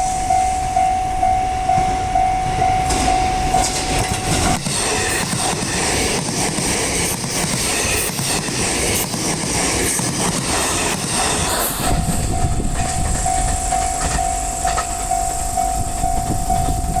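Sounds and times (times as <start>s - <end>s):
crossing warning bell: 0.0s - 9.2s, 10.0s - 17.0s
train wheels rumbling on rail: 0.0s - 17.0s.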